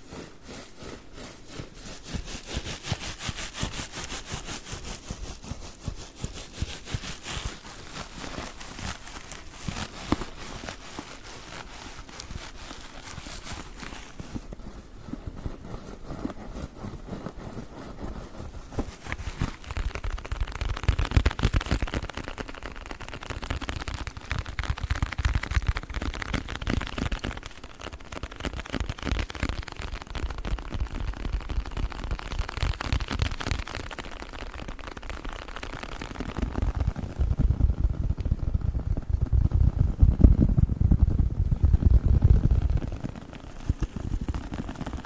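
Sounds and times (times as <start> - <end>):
sponge pack crackling: 0.0 - 45.0.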